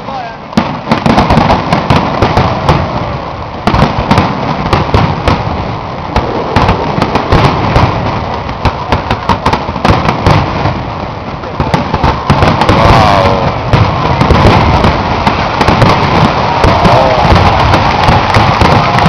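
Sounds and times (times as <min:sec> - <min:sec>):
firework shell bursts and crackles: 0:00.0 - 0:19.0.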